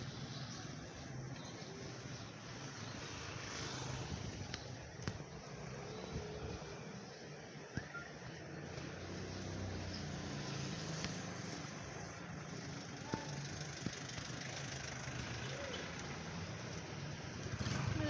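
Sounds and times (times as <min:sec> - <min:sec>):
street traffic noise: 0:00.0 - 0:18.0
vehicle engine running at low revs: 0:00.0 - 0:18.0.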